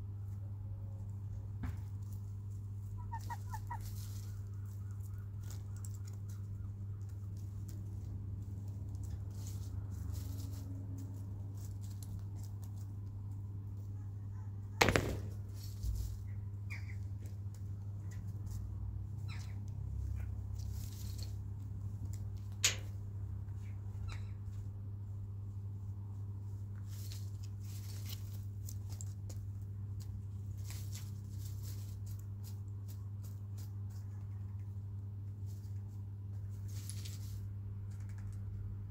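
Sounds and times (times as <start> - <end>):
low electrical hum: 0.0 - 38.9
chickens scratching and pecking: 0.2 - 38.9.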